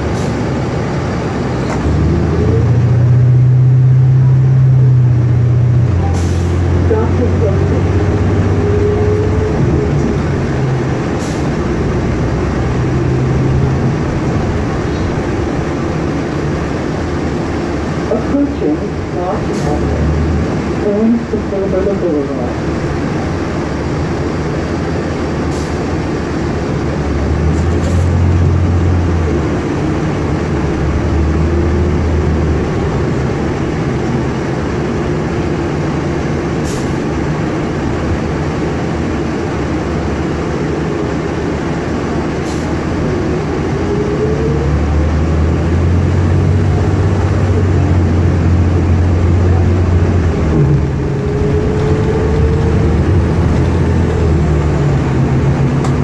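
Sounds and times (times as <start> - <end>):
bus engine running: 0.0 - 56.0
road noise: 0.0 - 56.0.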